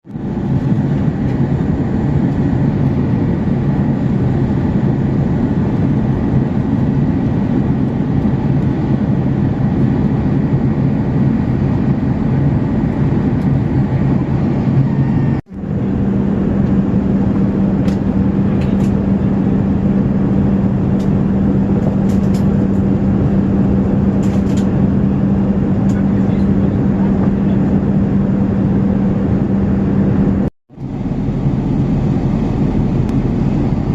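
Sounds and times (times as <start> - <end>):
airplane cabin engine and airflow noise: 0.0 - 33.9
low hum: 0.1 - 33.9.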